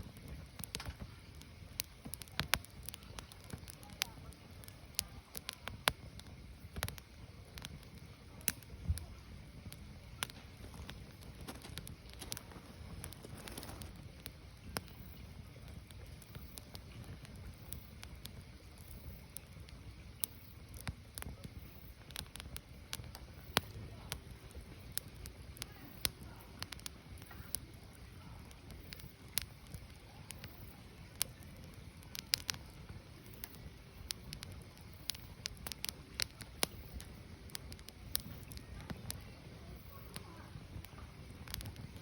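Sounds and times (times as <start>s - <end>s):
firewood crackling and popping: 0.0s - 42.0s.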